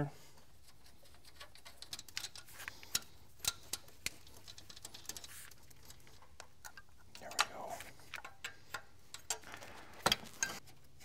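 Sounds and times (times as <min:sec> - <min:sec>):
light metallic clicks and ticks: 0:00.7 - 0:10.6.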